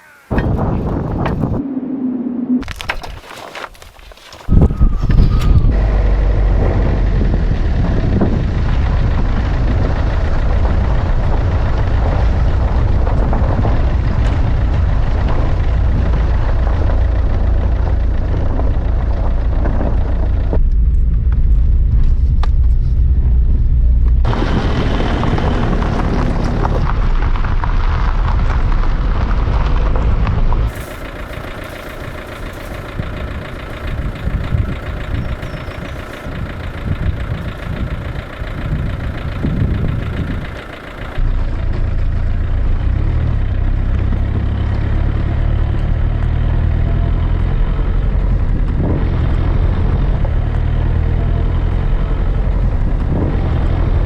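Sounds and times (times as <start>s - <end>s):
storm wind buffeting microphone: 0.3s - 2.8s, 4.5s - 41.3s, 47.6s - 54.0s.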